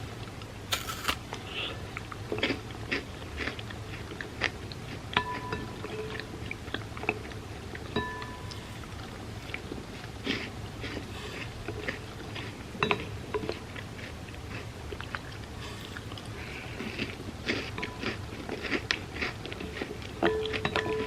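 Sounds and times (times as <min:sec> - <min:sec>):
chewing and crunching: 0:00.0 - 0:21.0.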